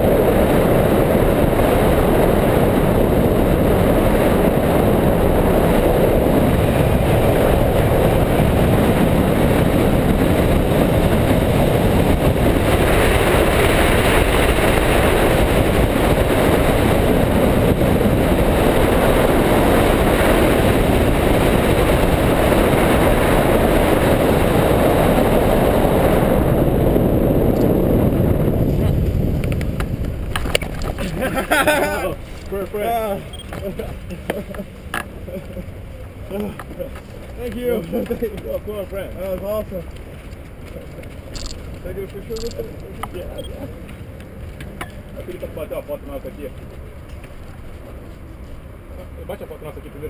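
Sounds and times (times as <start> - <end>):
wind rumbling over camera: 0.0 - 50.0.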